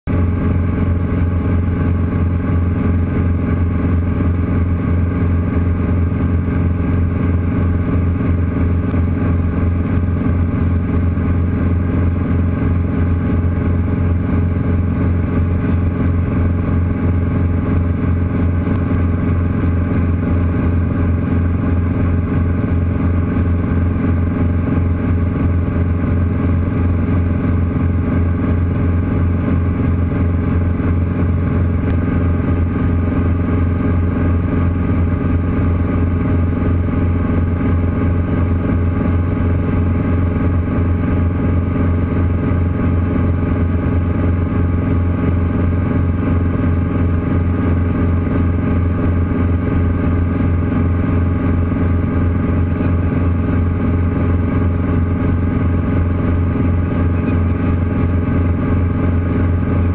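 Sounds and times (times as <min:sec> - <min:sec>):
helicopter engine and rotor drone: 0:00.1 - 0:59.9.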